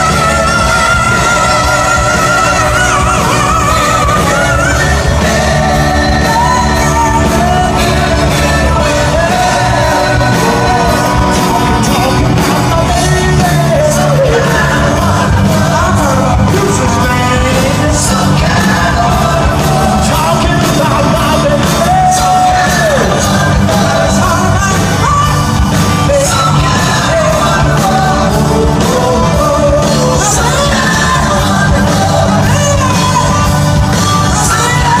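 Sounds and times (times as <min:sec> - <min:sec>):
people singing and shouting: 0:00.0 - 0:35.0
rock band playing: 0:00.0 - 0:35.0.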